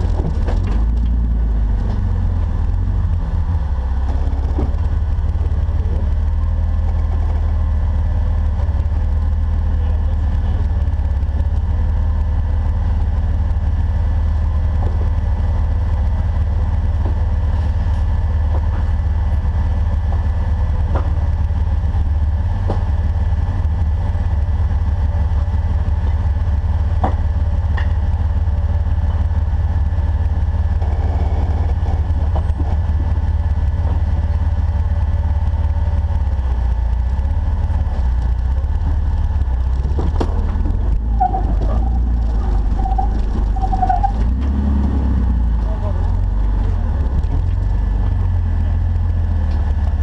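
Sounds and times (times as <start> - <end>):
engine running at low revs: 0.0 - 50.0.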